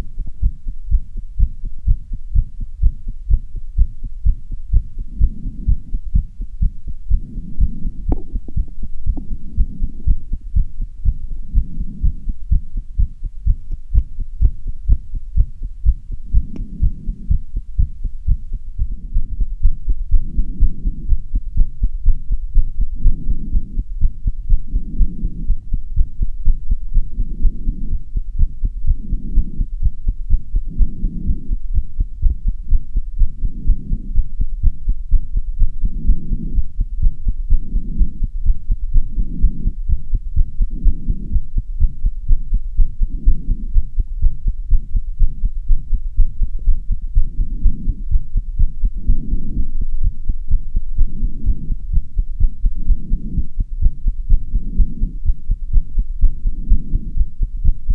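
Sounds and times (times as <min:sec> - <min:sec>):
fast heartbeat thumps: 0:00.0 - 0:57.9.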